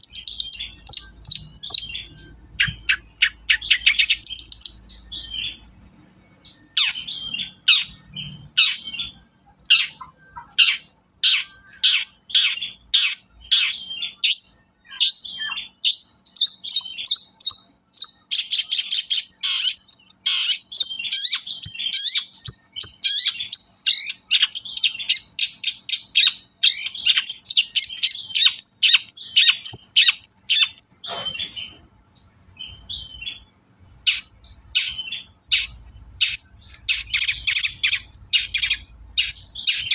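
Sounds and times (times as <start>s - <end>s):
bird singing harsh chatter: 0.0s - 39.9s.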